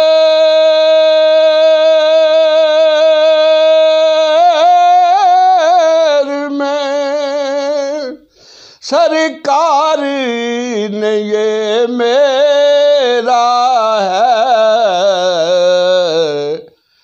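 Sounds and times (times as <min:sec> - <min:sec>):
man singing solo: 0:00.0 - 0:16.8.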